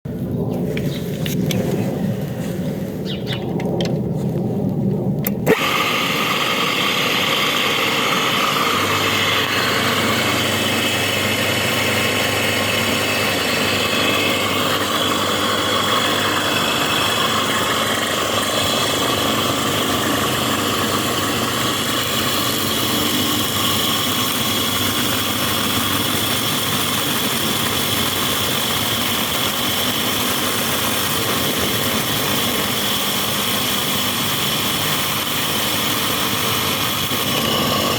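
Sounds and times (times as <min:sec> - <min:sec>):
electric motor whining: 0:05.3 - 0:37.9.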